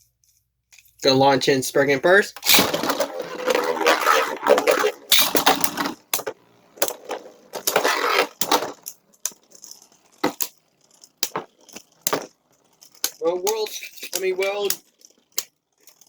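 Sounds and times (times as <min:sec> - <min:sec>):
spinning tops clattering: 0:02.4 - 0:16.0
spinning tops clicking together: 0:02.4 - 0:16.0.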